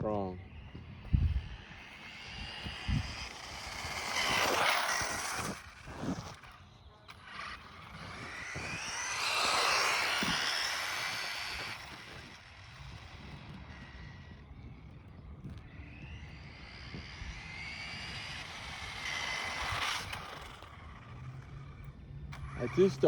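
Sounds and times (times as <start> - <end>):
rc car motor whine: 0.0 - 23.0.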